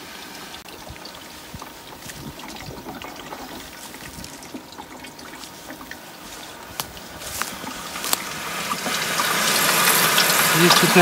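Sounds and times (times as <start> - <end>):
water running into a container: 0.0 - 11.0.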